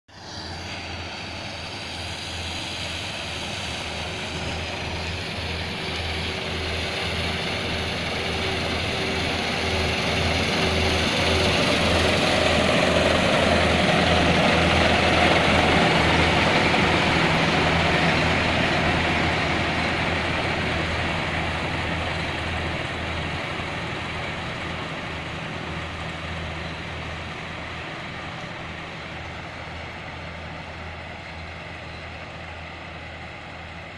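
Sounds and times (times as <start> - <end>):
diesel engine hum: 0.1 - 33.9.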